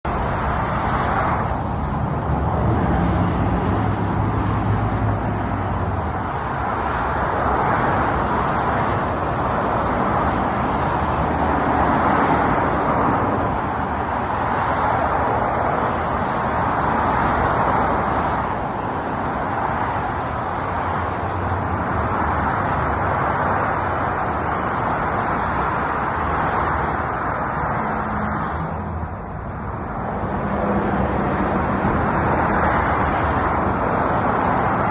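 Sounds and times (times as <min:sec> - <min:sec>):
highway traffic passing: 0:00.0 - 0:34.9.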